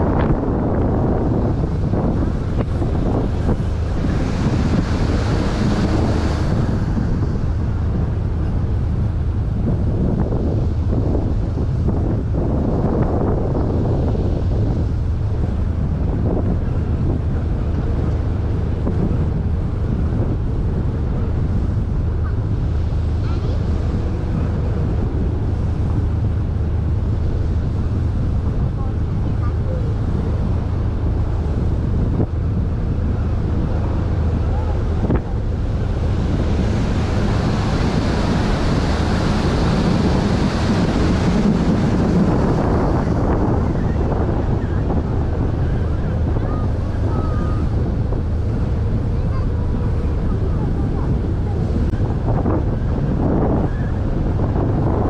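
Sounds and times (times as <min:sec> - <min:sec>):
boat engine drone: 0:00.0 - 0:55.0
water noise: 0:00.0 - 0:55.0
wind buffeting microphone: 0:00.0 - 0:55.0.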